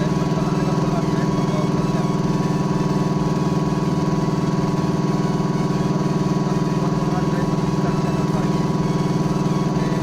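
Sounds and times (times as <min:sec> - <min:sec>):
air compressor humming: 0:00.0 - 0:10.0.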